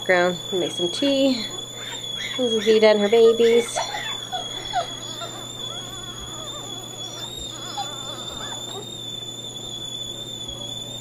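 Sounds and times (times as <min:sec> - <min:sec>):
kettle whistling: 0:00.0 - 0:11.0
puppies squeaking and whimpering: 0:00.6 - 0:11.0.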